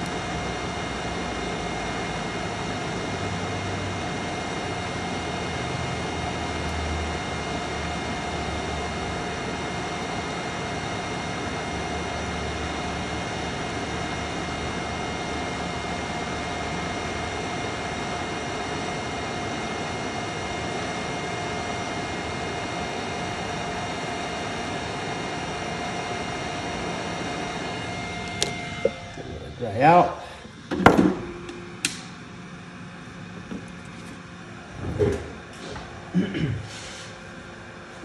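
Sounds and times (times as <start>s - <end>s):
faint steady whine: 0.0s - 38.0s
hot air station blowing: 0.0s - 38.0s.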